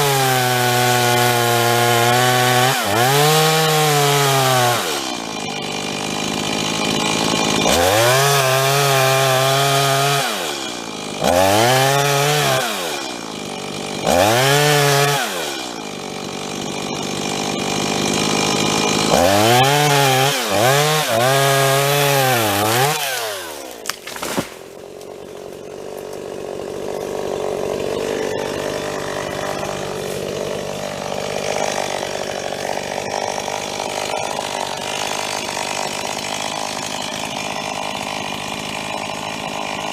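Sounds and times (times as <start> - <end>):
chainsaw revving while cutting wood: 0.0 - 39.9.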